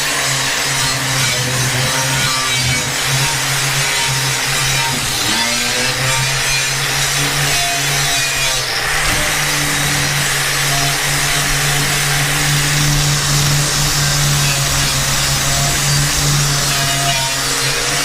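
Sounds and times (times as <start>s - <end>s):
angle grinder grinding metal: 0.0s - 18.0s.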